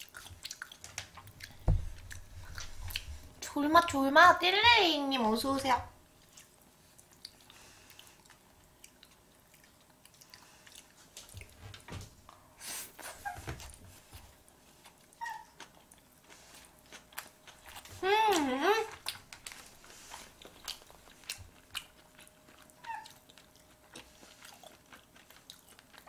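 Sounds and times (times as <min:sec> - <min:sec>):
food being bitten and chewed: 0:00.0 - 0:03.4, 0:06.2 - 0:26.0.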